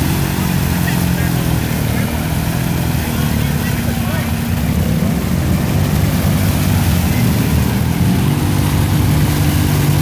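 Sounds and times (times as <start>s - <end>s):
quad bike engine running hard: 0.0s - 10.0s
tyres churning through mud: 0.0s - 10.0s.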